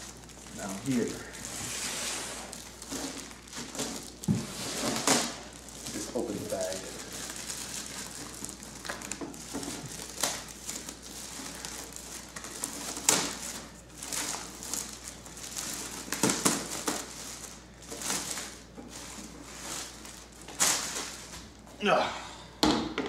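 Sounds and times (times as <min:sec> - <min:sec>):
plastic bag crinkling: 0:00.0 - 0:21.6.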